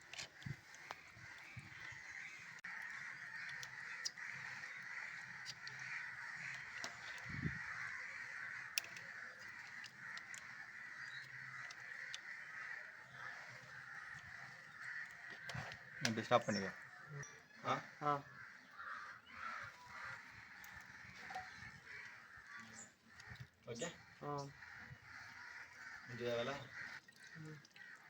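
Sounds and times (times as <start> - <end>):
faint bird calls: 0.0 - 28.0.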